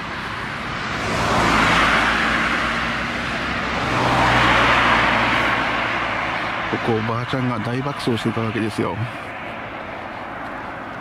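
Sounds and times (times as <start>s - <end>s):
cars passing on road: 0.0s - 11.0s.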